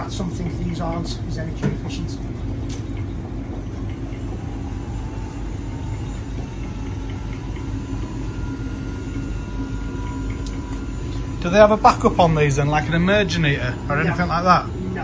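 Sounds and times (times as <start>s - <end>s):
water heater rumbling: 0.0s - 15.0s.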